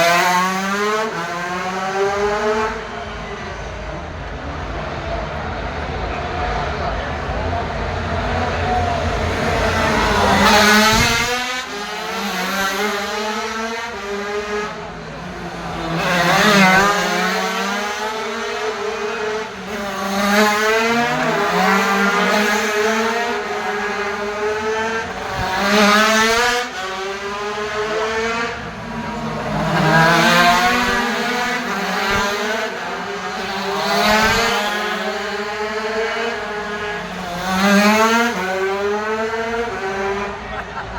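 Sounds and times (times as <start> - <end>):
racing motorcycles passing: 0.0 - 40.9.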